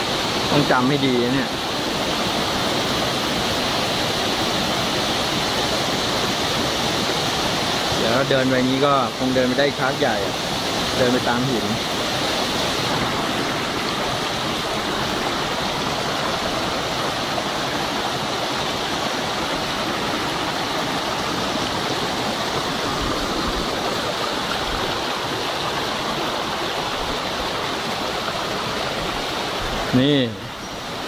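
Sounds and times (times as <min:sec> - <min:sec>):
stream splashing over stones: 0:00.0 - 0:31.0.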